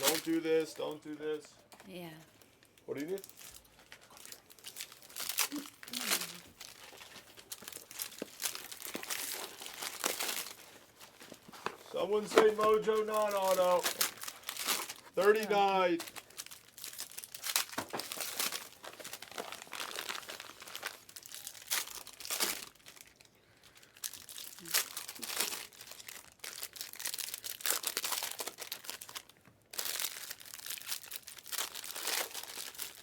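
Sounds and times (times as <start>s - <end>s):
plastic packaging crinkling and tearing: 0.0s - 1.0s, 1.7s - 33.0s.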